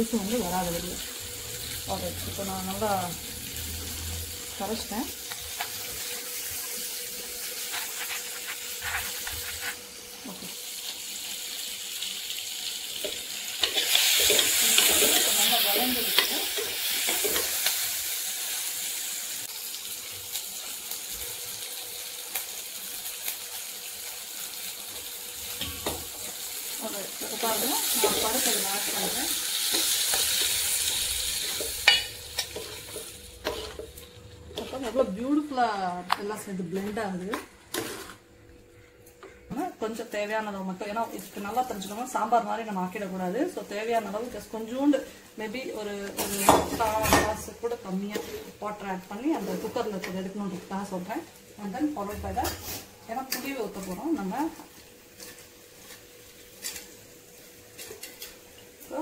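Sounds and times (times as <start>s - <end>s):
sizzling in hot oil: 0.0s - 35.8s, 39.9s - 59.0s.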